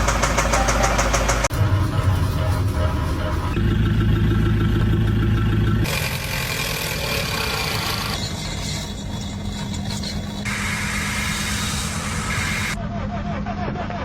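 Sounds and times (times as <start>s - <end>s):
car engine humming: 0.0s - 12.8s.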